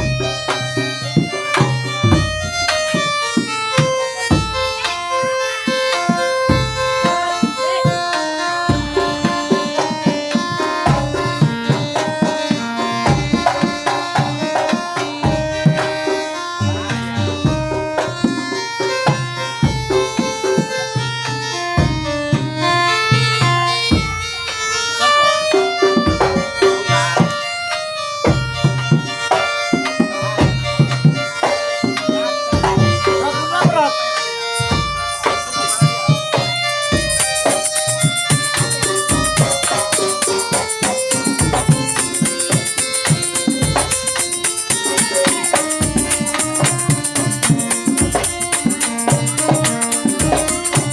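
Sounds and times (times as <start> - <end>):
hand drums beating: 0.0 - 50.9
reedy wind instrument melody: 0.0 - 50.9.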